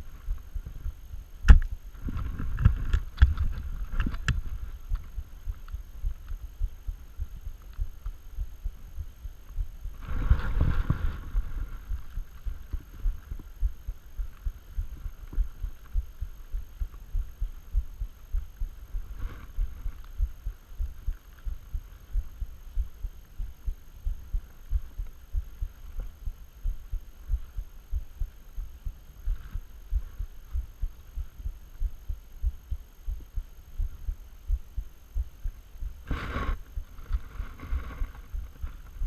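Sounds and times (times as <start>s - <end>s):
steady low thuds: 0.0s - 39.0s.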